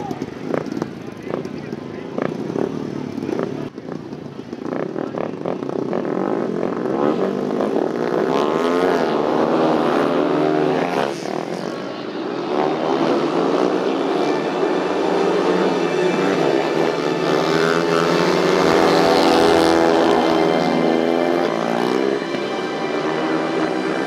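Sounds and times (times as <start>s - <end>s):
motorcycles revving and accelerating: 0.0s - 24.0s.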